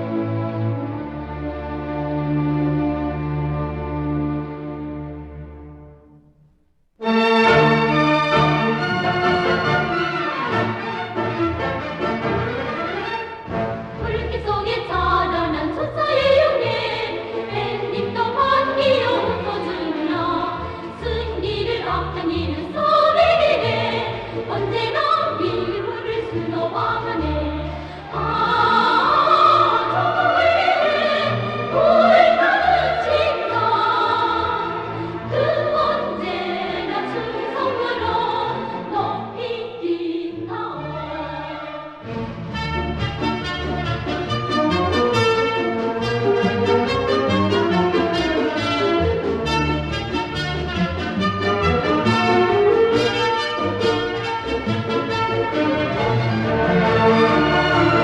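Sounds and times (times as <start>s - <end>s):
orchestral accompaniment: 0.0s - 58.0s
choir singing operatically: 7.0s - 58.0s.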